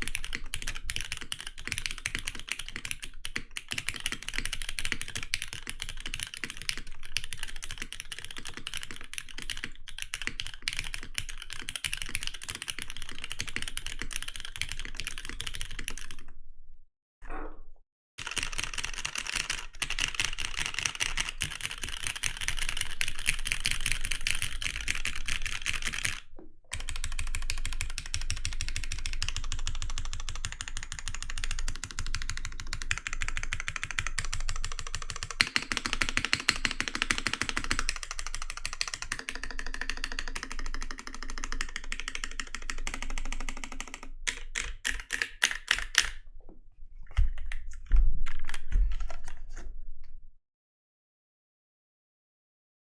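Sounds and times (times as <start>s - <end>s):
fast typing on mechanical keyboard: 0.0s - 16.2s, 18.2s - 46.2s.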